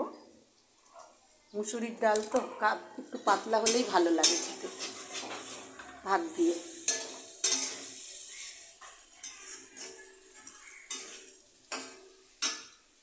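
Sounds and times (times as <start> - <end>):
lentils boiling with popping bubbles: 0.0 - 13.0.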